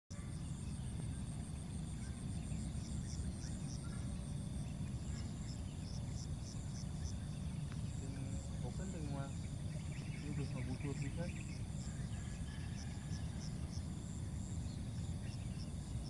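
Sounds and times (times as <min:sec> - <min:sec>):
insects trilling: 0:00.1 - 0:16.0
steady low rumble: 0:00.1 - 0:16.0.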